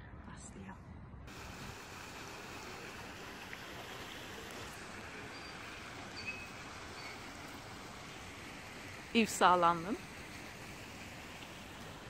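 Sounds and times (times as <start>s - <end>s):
rushing water-like ambience: 1.3s - 12.0s.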